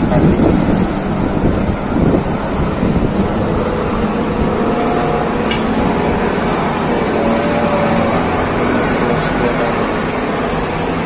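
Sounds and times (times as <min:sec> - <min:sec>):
bus engine running: 0:00.0 - 0:11.0.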